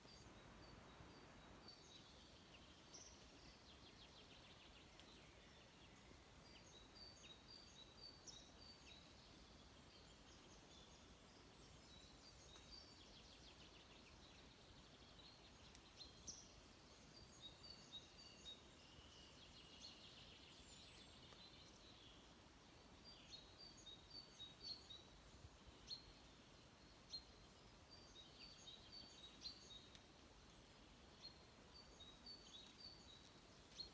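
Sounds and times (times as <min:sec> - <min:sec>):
quiet background hiss: 0:00.0 - 0:33.9
small birds chirping: 0:00.0 - 0:33.9.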